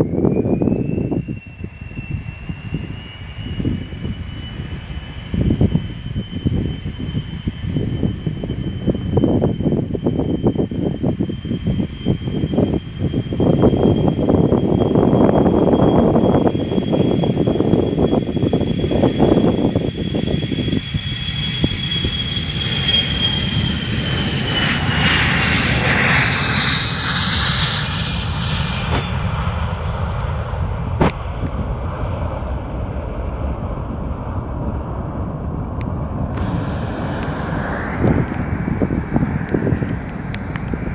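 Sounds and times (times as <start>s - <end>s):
jet engines at takeoff power: 0.0s - 40.9s.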